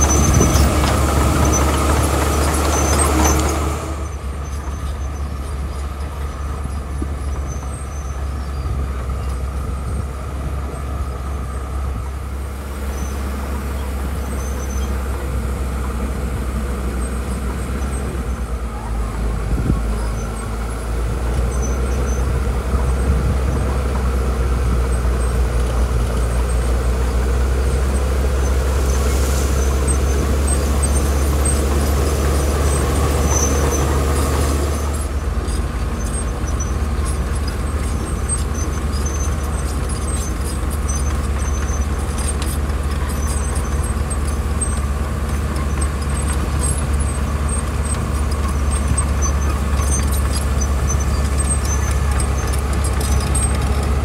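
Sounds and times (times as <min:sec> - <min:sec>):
bulldozer diesel engine under load: 0:00.0 - 0:54.0
road machinery running: 0:00.0 - 0:54.0.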